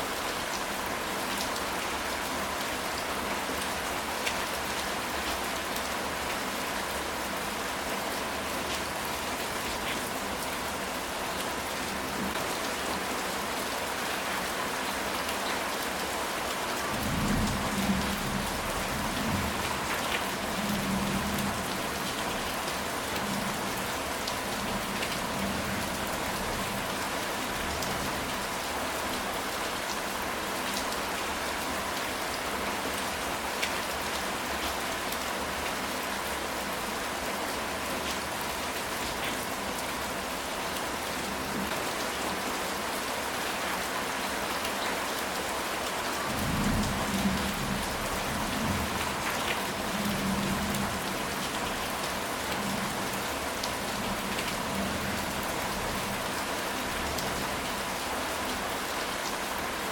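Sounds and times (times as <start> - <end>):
rain on a tile roof: 0.0 - 59.9.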